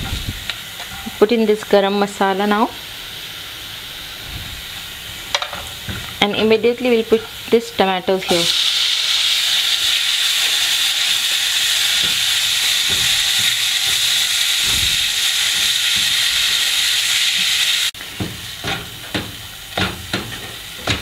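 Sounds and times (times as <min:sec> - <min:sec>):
tomatoes sizzling in a frying pan: 0:00.0 - 0:21.0.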